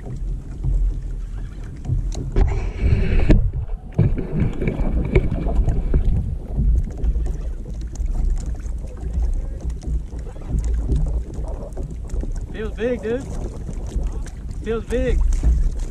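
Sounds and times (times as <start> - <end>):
water slapping against hull: 0.0 - 15.9
wind rumbling on microphone: 0.0 - 15.9.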